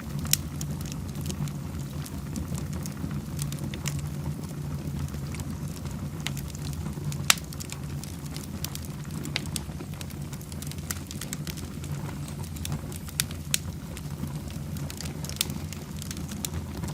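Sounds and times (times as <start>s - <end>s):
sharp pops of fire: 0.0s - 16.9s
steady low rumble: 0.0s - 16.9s
wood fire crackling: 0.0s - 16.9s.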